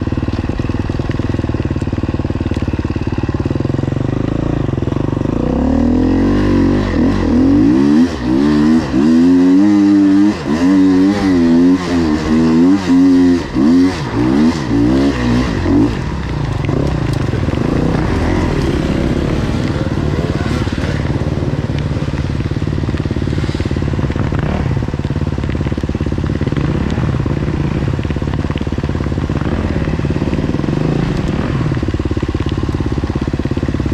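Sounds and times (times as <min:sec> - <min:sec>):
dirt bike engine revving: 0:02.5 - 0:33.9.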